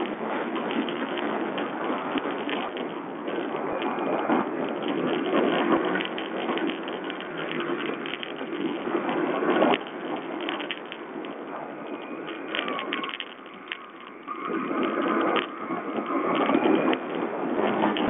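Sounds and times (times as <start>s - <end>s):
clattering and rattling: 0.0s - 18.0s.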